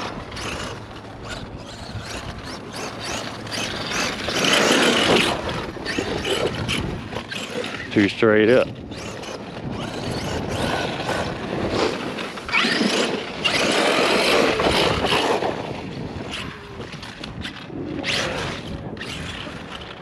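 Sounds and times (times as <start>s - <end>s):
electric motor whine revving: 0.0s - 20.0s
tyres churning soft dirt: 0.0s - 20.0s.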